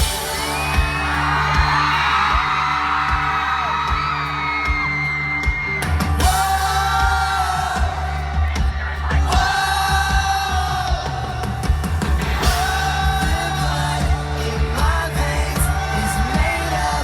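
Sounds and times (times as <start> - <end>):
drum hits: 0.0 - 16.8
bass: 0.0 - 17.0.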